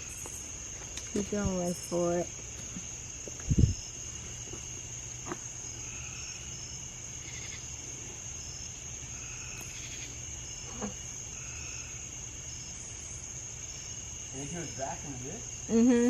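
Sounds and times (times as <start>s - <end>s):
crickets trilling and chirping: 0.0s - 16.0s.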